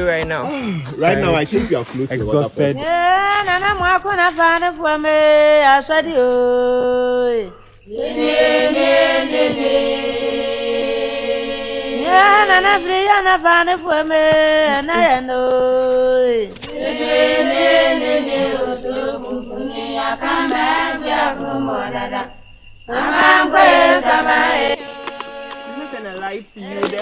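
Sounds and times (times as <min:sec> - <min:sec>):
choir singing long notes: 0:02.4 - 0:27.0.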